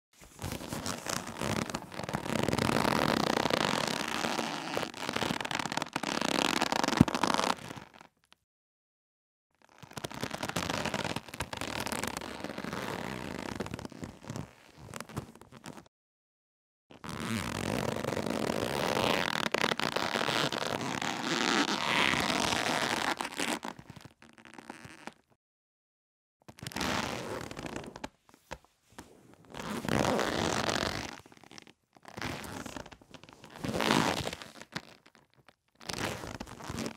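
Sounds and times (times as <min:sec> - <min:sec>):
rope rubbing with crackling friction: 0:00.2 - 0:08.3, 0:09.6 - 0:15.9, 0:17.0 - 0:25.3, 0:26.5 - 0:36.9.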